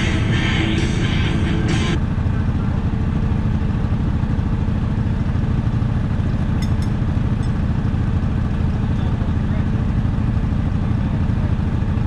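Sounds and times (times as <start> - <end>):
atv engine running at low revs: 0.0 - 12.0.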